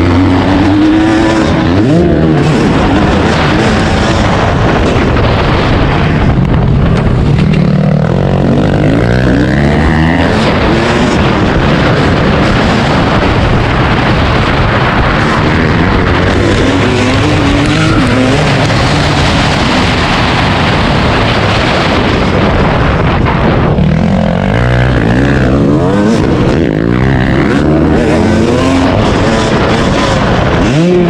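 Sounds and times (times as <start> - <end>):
dense rushing noise: 0.0 - 31.0
dirt bike engine revving: 0.0 - 31.0.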